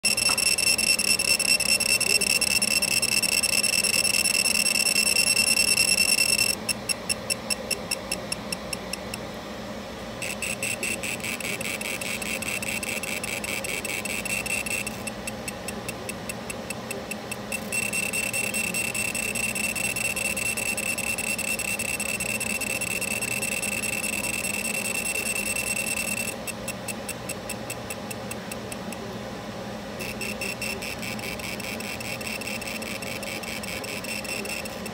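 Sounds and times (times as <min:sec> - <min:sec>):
laser engraver high-pitched whine: 0:00.0 - 0:34.9.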